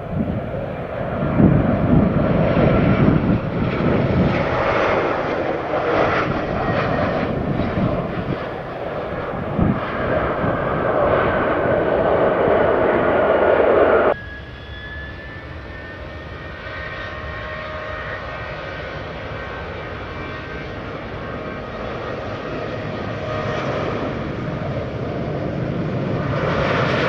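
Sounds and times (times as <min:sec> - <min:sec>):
jet engines running: 0:00.0 - 0:27.0.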